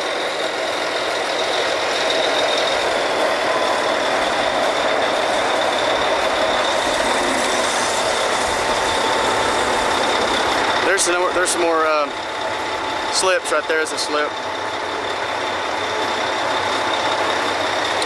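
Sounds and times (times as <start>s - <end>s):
drilling rig machinery: 0.0s - 18.0s
high mechanical whine: 0.0s - 18.0s.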